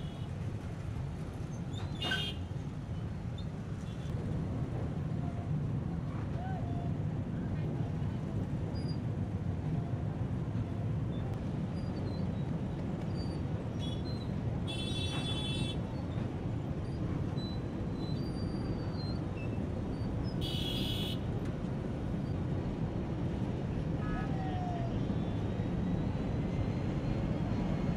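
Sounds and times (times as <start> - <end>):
train rumble on bridge: 0.0 - 20.4, 21.2 - 27.9.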